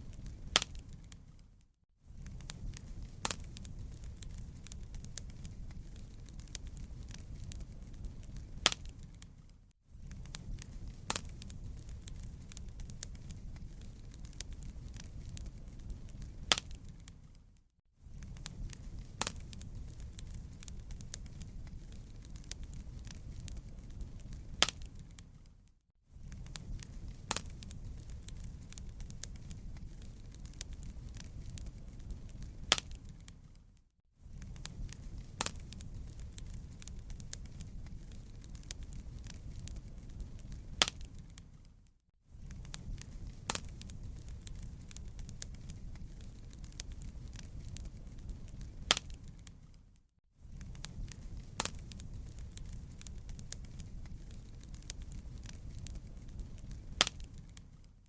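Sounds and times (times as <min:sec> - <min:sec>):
low rumble of fire: 0:00.0 - 0:58.0
wood fire crackling and popping: 0:00.0 - 0:58.0.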